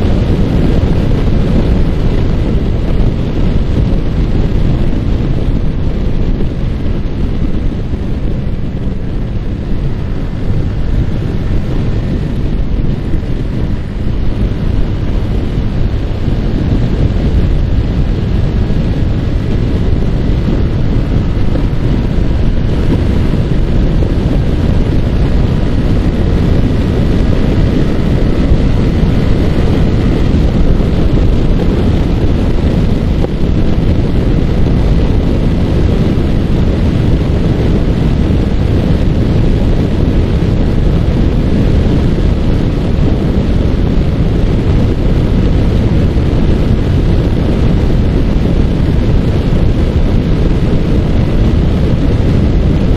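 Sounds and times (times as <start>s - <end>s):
motorcycle engine running: 0.0s - 52.9s
wind buffeting microphone: 0.0s - 52.9s.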